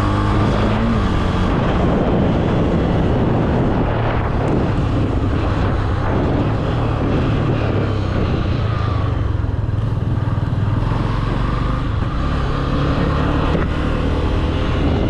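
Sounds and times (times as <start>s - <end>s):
motorcycle engine running: 0.0s - 15.0s
wind rush over microphone: 0.0s - 15.0s.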